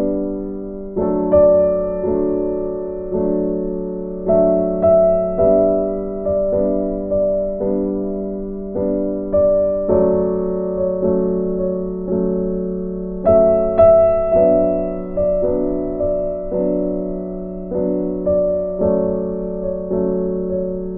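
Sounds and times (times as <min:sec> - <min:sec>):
soft piano chords: 0:00.0 - 0:20.9.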